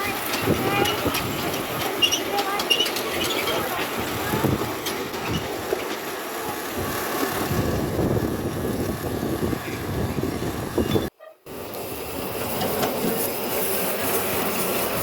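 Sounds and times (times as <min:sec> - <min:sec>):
miniature steam locomotive running: 0:00.0 - 0:15.0.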